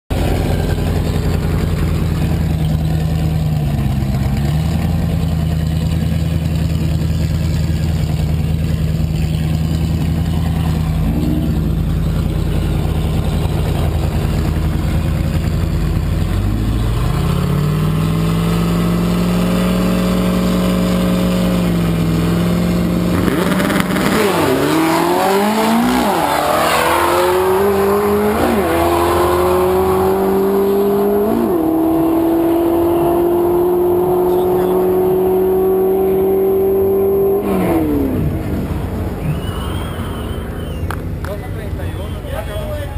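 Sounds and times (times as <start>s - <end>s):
drag car engines revving: 0.1s - 42.9s.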